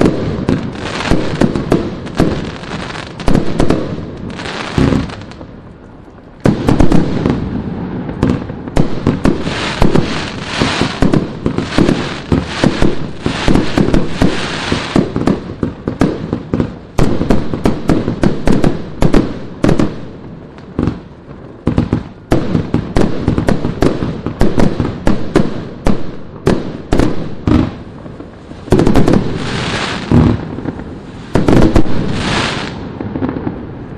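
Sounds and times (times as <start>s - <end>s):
firework shots and bangs: 0.0s - 5.5s, 6.4s - 20.1s, 21.6s - 28.0s, 28.7s - 33.6s.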